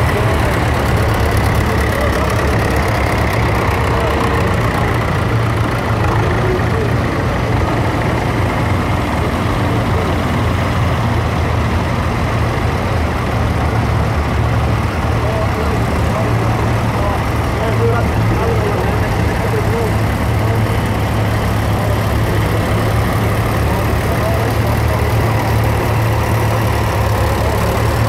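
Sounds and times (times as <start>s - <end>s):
tractor engines running: 0.0s - 28.0s.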